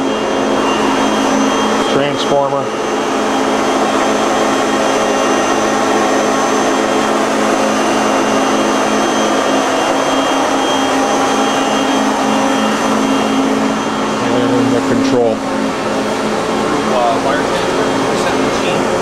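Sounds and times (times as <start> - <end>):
machining center whirring hum: 0.0 - 19.0.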